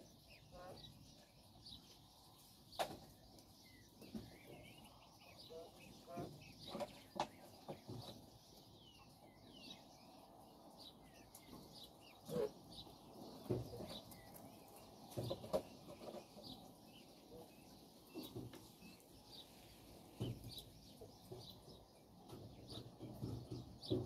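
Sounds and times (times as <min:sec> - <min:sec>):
birds thumping and rustling: 0:00.0 - 0:24.0
quail chirping: 0:00.0 - 0:24.0.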